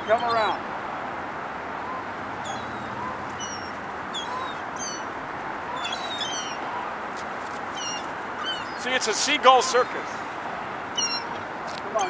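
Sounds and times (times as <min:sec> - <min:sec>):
gulls calling: 0:00.0 - 0:12.0
steady background hiss: 0:00.0 - 0:12.0.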